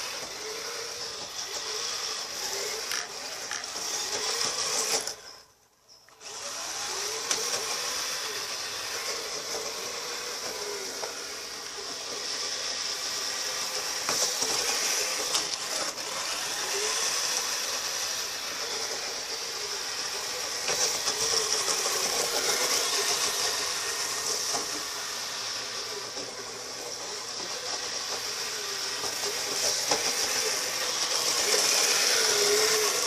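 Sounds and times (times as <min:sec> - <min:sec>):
electric motors whining: 0:00.0 - 0:33.0
gear and track noise: 0:00.0 - 0:33.0.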